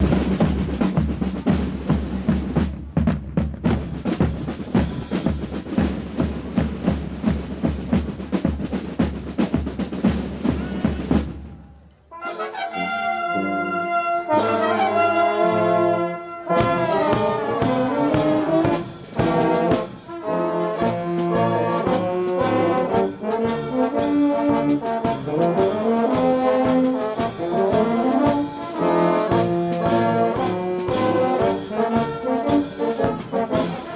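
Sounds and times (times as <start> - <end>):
brass band music: 0.0 - 11.5, 12.1 - 33.9.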